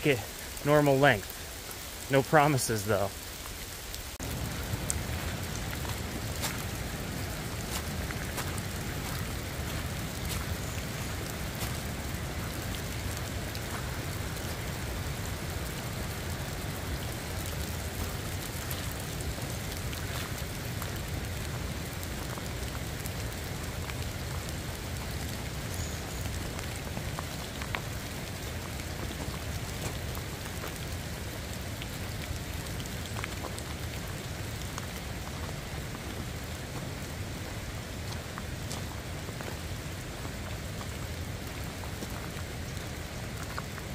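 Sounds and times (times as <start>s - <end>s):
sharp ticks of raindrops: 0.0s - 43.9s
steady rain falling: 0.0s - 43.9s.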